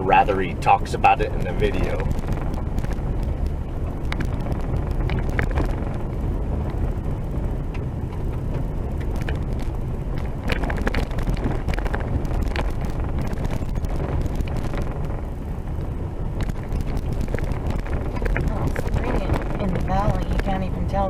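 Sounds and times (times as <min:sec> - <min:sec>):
vehicle driving with low rumble: 0:00.0 - 0:21.0
small rattles and knocks: 0:01.3 - 0:20.8.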